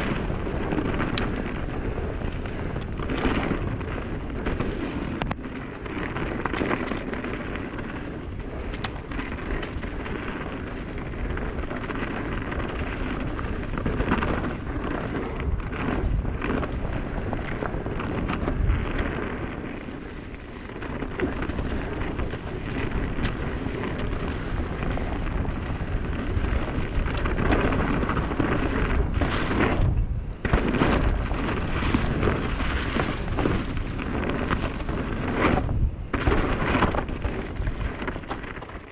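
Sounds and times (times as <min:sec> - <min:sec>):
bike tyres rumbling on dirt: 0:00.0 - 0:38.9
clicks and knocks from bike: 0:00.0 - 0:38.9.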